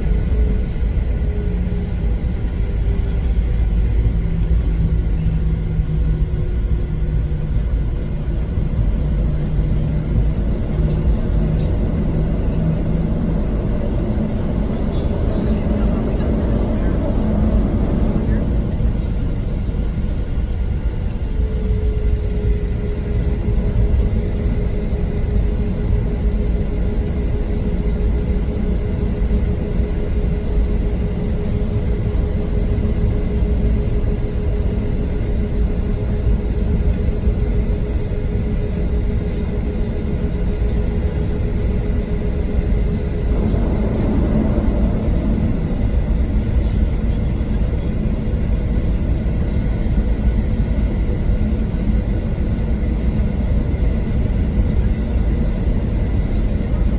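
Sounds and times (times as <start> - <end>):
constant cabin hum: 0.0 - 56.9
deep rumble of aircraft engines: 0.0 - 56.9.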